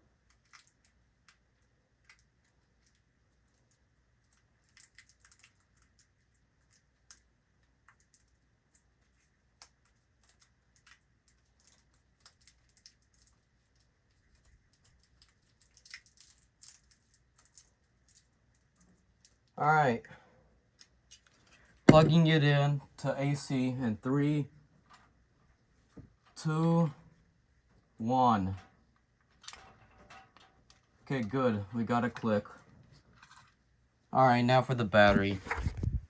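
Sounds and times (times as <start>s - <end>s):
light clicks and crinkles: 0.1s - 19.6s, 20.6s - 22.2s, 24.6s - 34.1s.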